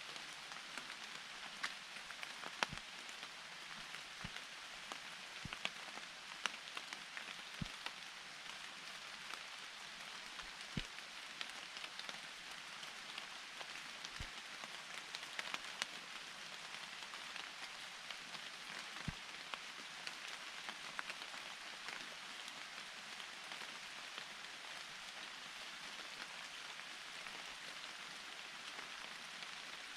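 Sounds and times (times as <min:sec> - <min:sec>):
steady rain in forest: 0:00.0 - 0:29.9.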